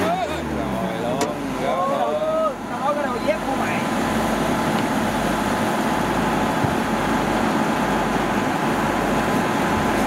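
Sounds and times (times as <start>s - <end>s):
combine harvester running: 0.0s - 10.0s.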